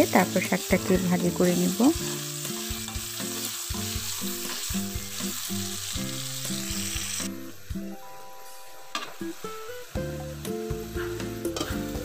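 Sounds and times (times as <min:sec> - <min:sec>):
soft background music: 0:00.0 - 0:12.0
vegetables sizzling in hot oil: 0:00.0 - 0:12.0.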